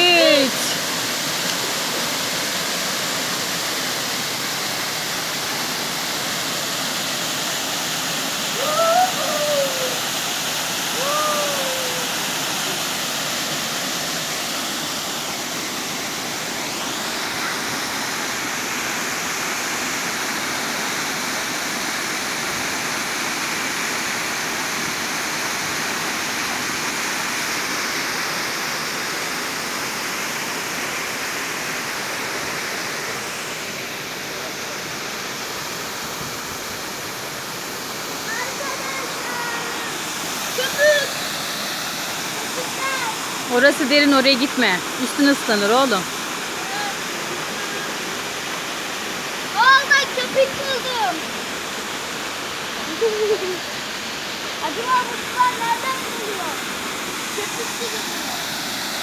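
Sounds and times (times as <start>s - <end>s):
waterfall pouring into pool: 0.0s - 43.9s, 45.9s - 59.0s.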